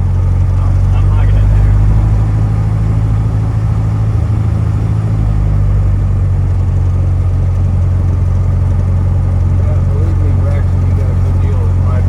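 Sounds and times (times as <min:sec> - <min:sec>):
piston airplane engine drone: 0:00.0 - 0:12.0.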